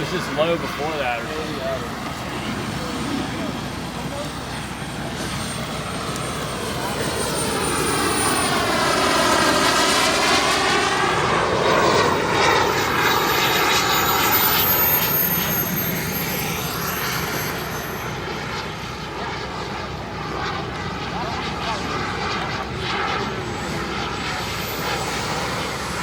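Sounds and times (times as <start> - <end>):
model jet whine flying past: 0.0 - 26.0.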